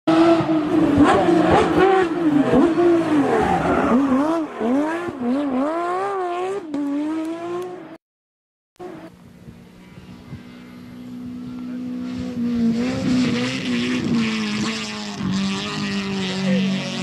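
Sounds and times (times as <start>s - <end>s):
rally car engine revving: 0.1s - 8.0s, 8.8s - 17.0s.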